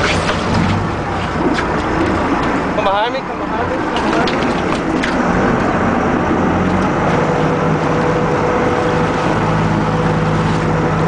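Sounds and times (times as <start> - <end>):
boat engine humming: 0.0 - 11.0
churning water rushing: 0.0 - 11.0.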